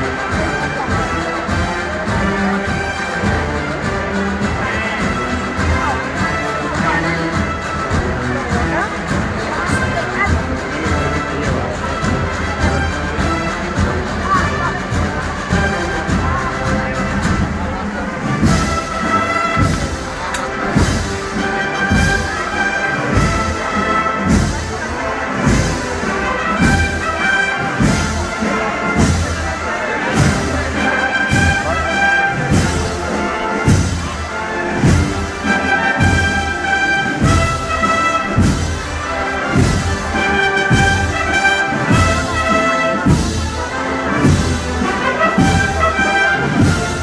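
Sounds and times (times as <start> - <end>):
brass band playing slow march: 0.0 - 47.0
steady drum beat: 0.0 - 47.0.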